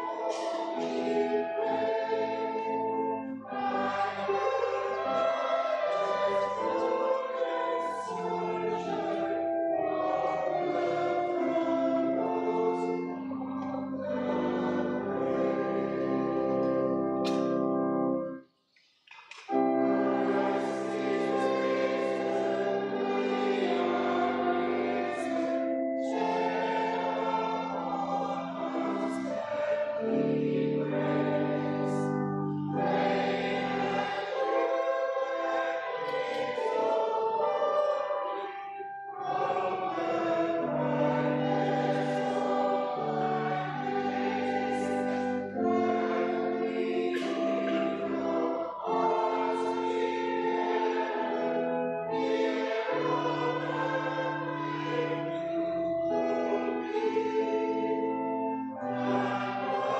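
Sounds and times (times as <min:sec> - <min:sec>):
church choir singing: 0:00.0 - 0:18.5, 0:19.1 - 0:59.9.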